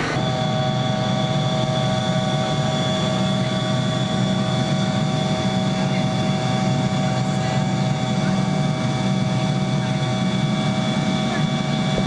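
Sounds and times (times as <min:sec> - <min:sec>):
jet engines and airflow in cabin: 0:00.0 - 0:12.0
steady whining tones: 0:00.0 - 0:12.0.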